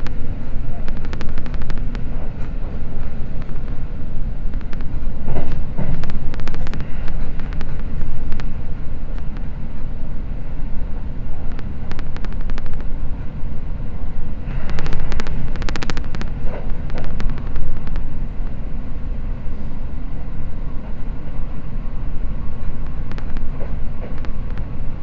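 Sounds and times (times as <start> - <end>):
train rumble from inside: 0.0 - 25.0.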